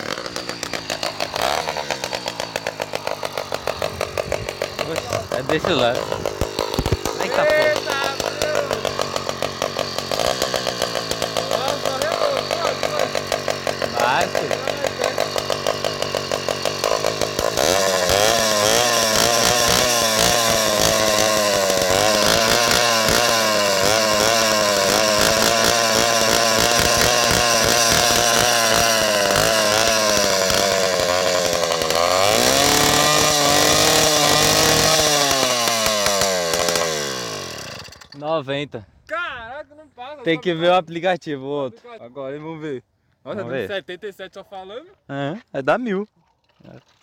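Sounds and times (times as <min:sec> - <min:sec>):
two-stroke engine revving: 0:00.0 - 0:38.2.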